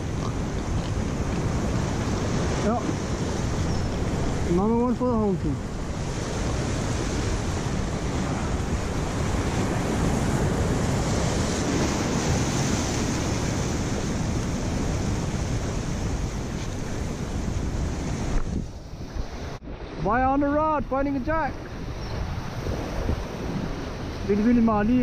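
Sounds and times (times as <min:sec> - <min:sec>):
wind buffeting microphone: 0:00.0 - 0:25.0
surf breaking on rocks: 0:01.2 - 0:25.0.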